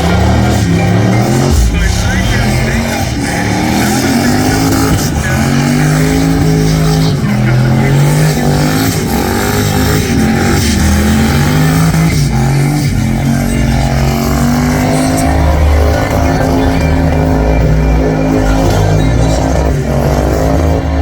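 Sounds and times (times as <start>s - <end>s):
car engine revving hard: 0.0s - 21.0s
tyres spinning: 0.0s - 21.0s.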